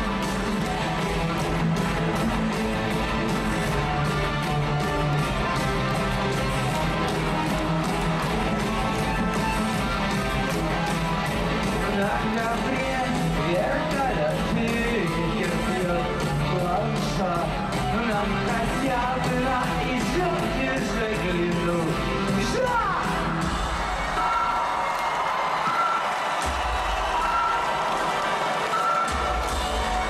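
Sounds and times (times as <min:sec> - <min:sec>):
rock band playing live: 0:00.0 - 0:24.5.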